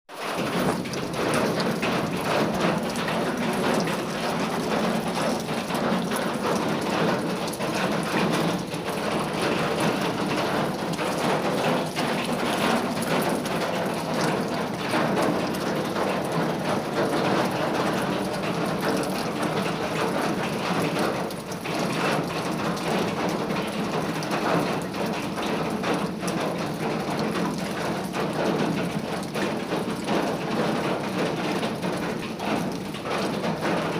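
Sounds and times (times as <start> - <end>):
rain on a metal roof: 0.1 - 33.9.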